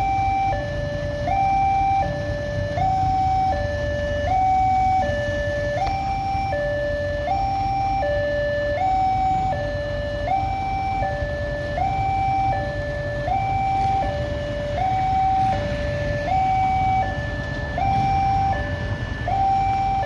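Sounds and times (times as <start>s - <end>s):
two-tone warning siren: 0.0s - 20.0s.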